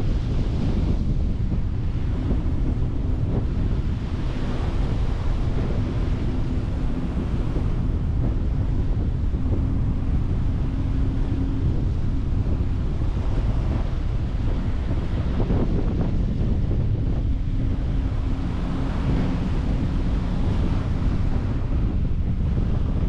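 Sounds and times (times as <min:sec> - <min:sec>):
faint steady hum: 0:00.0 - 0:23.0
sea waves washing on beach: 0:00.0 - 0:23.0
wind buffeting microphone: 0:00.0 - 0:23.0.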